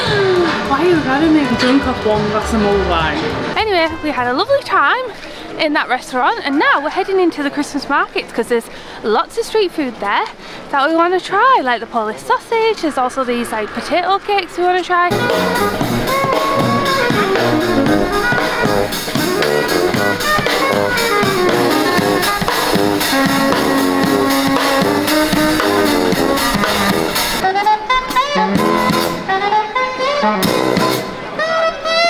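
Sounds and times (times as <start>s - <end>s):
street band playing jazz: 0.0s - 8.8s, 10.0s - 32.0s.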